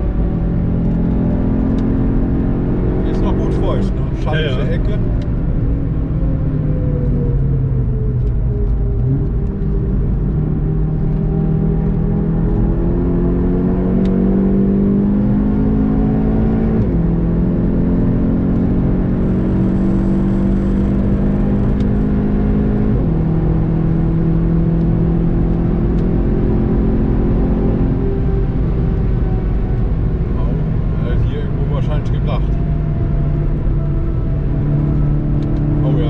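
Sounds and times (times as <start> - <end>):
car engine accelerating hard: 0.0 - 36.0
road and tyre noise: 0.0 - 36.0.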